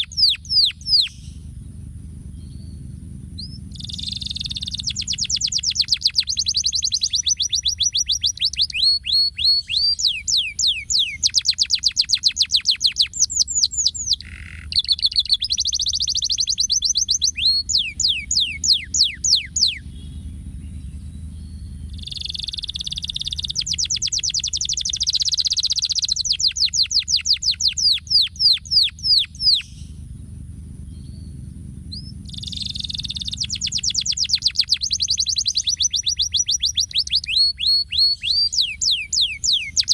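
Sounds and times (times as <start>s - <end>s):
canary singing trills: 0.0s - 39.9s
low steady rumble: 0.0s - 39.9s.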